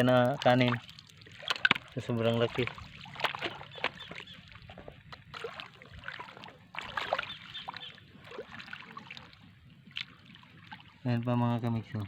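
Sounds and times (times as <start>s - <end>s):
small splashes and drips: 0.0s - 11.7s
shallow water sloshing: 0.0s - 12.0s.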